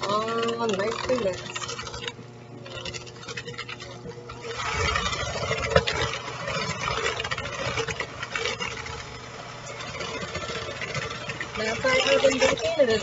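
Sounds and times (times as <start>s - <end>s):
electric hand mixer running: 0.0s - 13.0s
mixer beaters knocking bowl: 0.0s - 13.0s.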